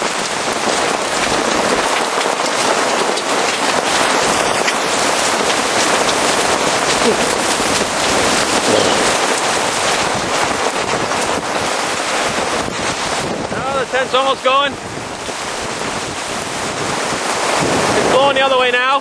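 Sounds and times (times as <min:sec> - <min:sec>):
hailstones ticking: 0:00.0 - 0:19.0
heavy rain hissing: 0:00.0 - 0:19.0.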